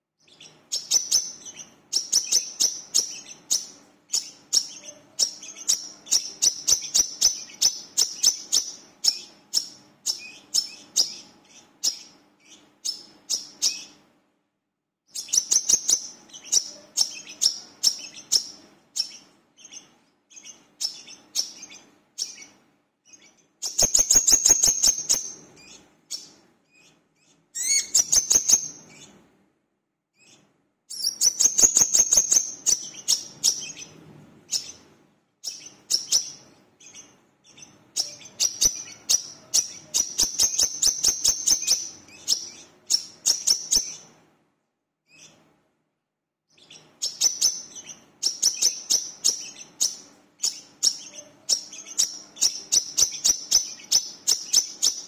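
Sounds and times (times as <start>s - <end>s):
sunbird singing: 0.2s - 14.0s, 15.1s - 29.1s, 30.2s - 34.8s, 35.4s - 44.1s, 46.5s - 55.0s.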